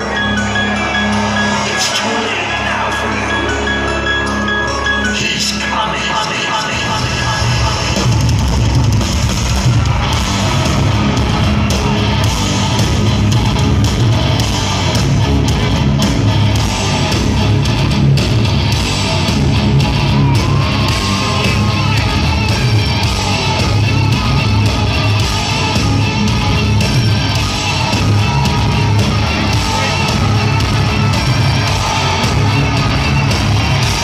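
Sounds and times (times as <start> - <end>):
live rock band playing: 0.0 - 5.9, 7.0 - 34.0
crowd: 0.0 - 34.0.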